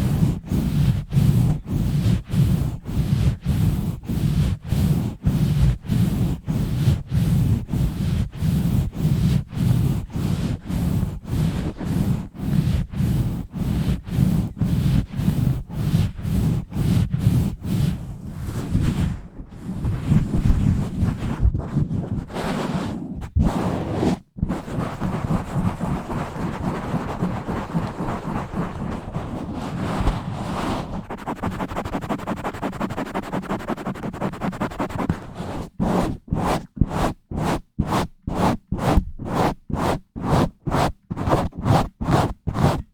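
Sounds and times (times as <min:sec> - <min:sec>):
rubbing on a microphone: 0:00.0 - 0:42.9.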